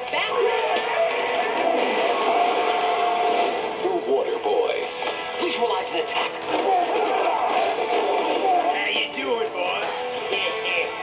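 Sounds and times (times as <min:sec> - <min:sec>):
film trailer soundtrack: 0:00.0 - 0:11.0.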